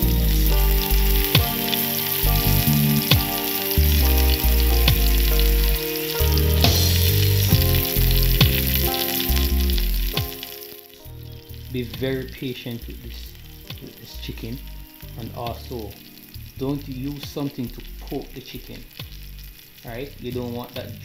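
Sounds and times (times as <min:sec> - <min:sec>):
background music: 0:00.0 - 0:21.0
chicken sizzling in oil: 0:00.0 - 0:21.0
oil popping and crackling: 0:00.0 - 0:21.0.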